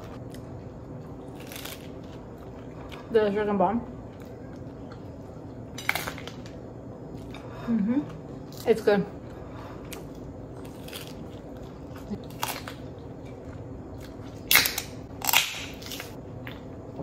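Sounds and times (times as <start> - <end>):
crunching and chewing: 0.0 - 3.1, 4.0 - 17.0.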